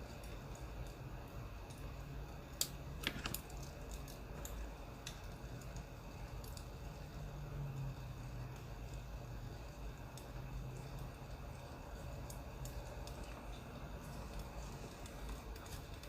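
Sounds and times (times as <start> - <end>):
firewood crackling and popping: 0.0 - 16.0
low steady hum: 0.0 - 16.0.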